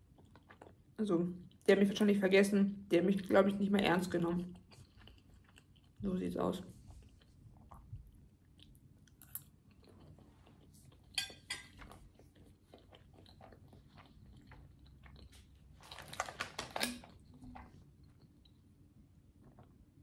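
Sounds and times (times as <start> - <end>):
chewing and mouth sounds: 0.0 - 1.7, 4.1 - 18.7, 19.4 - 20.0.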